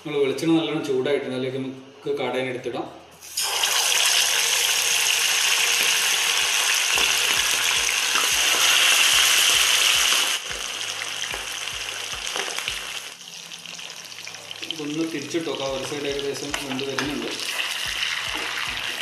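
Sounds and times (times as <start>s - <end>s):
meat deep-frying in oil: 3.2s - 19.0s.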